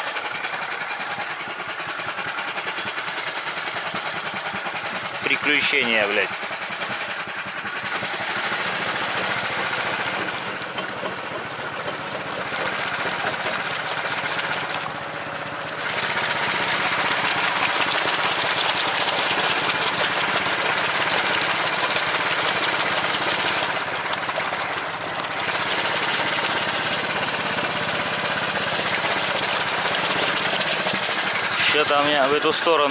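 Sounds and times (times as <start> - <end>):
vehicle engine under load: 0.0 - 32.9.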